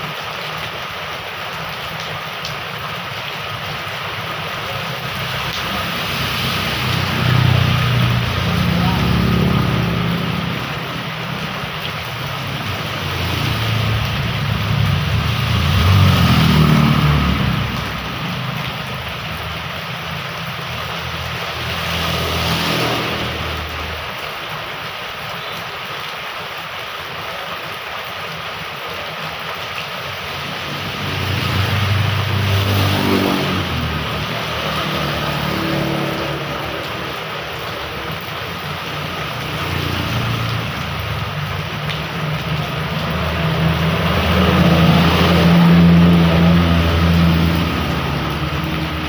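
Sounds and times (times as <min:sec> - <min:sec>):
heavy rain hiss: 0:00.0 - 0:49.0
vehicles passing by: 0:00.0 - 0:49.0.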